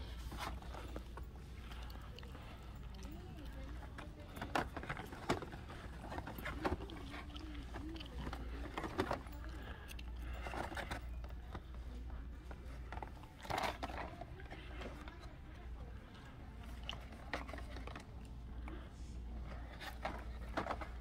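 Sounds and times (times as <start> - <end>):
plastic and card rustling: 3.1 - 15.7, 16.5 - 21.0.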